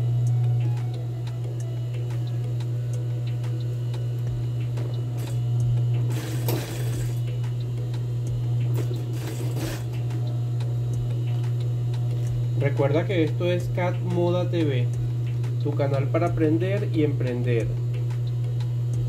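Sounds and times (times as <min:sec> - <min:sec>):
sewing machine motor humming: 0:00.0 - 0:15.8.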